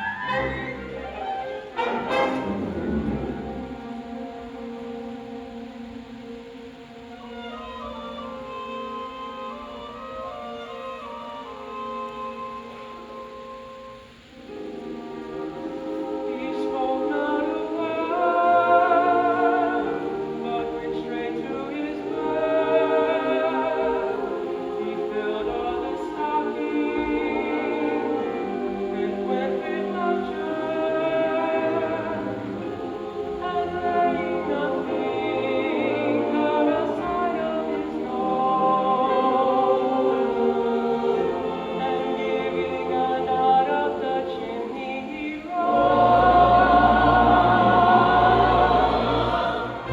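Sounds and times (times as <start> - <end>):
choir singing in harmony: 0.0 - 49.9.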